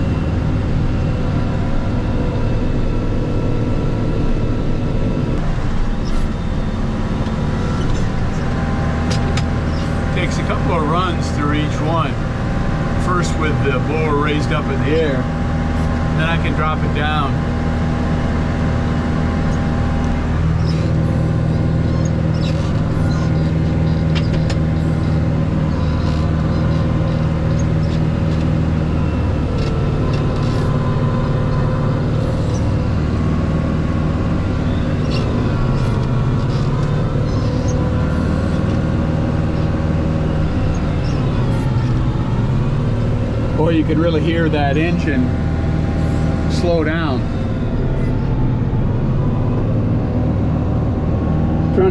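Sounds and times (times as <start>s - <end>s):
tractor engine running hard: 0.0s - 51.9s.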